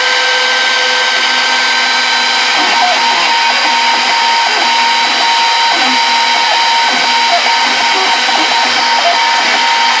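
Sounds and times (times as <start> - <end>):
cnc spindle motor whine: 0.0 - 10.0.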